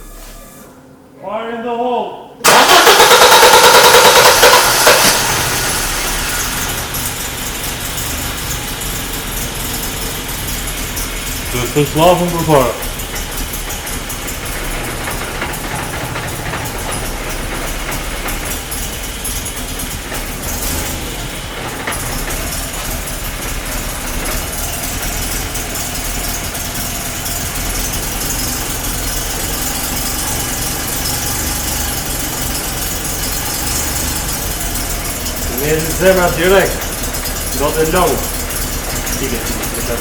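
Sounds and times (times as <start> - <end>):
car engine idling: 2.4 - 40.0.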